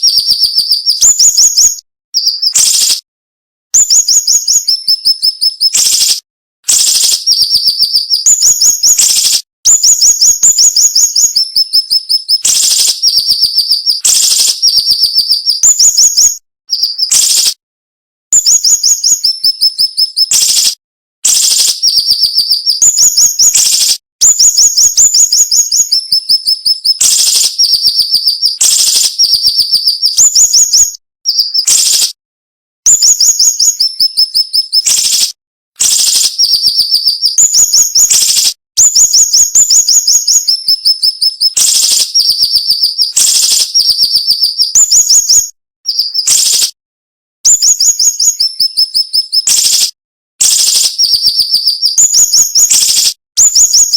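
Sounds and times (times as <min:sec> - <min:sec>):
songbird trilling: 0:00.0 - 0:03.0, 0:03.8 - 0:06.2, 0:06.9 - 0:17.5, 0:18.4 - 0:20.7, 0:21.4 - 0:32.0, 0:32.9 - 0:35.2, 0:36.0 - 0:46.6, 0:47.5 - 0:49.6.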